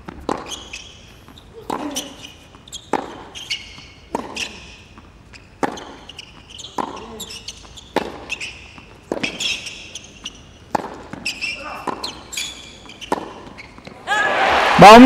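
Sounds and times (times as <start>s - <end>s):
tennis rackets hitting ball: 0.0s - 14.0s.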